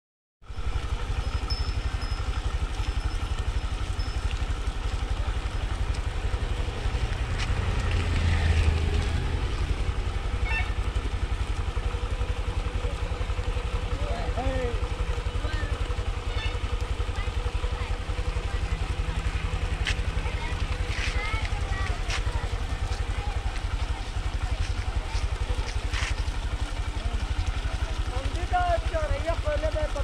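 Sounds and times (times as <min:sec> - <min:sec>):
small engine running: 0:00.5 - 0:30.0.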